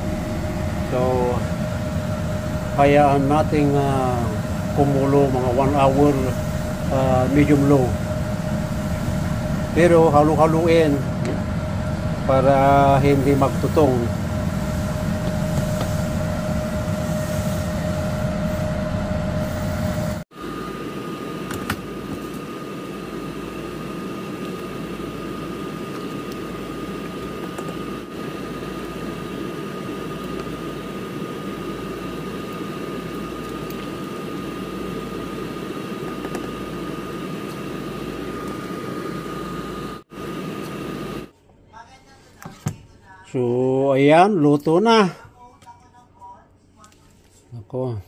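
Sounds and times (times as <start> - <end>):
kitchen fan whirring: 0.0 - 46.9.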